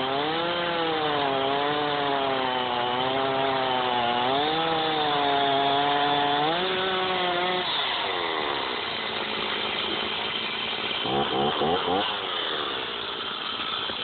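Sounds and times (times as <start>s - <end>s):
chainsaw cutting a log: 0.0s - 14.0s.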